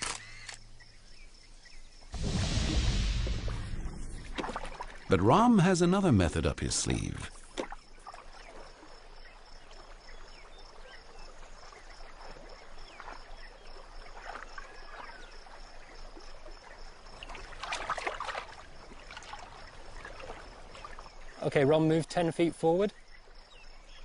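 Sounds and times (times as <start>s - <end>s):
water lapping and trickling: 2.2s - 6.1s, 6.8s - 24.0s.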